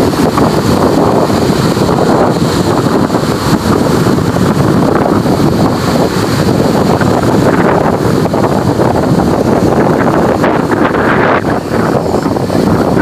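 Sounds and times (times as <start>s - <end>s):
ocean waves breaking: 0.0s - 13.0s
wind buffeting microphone: 0.0s - 13.0s.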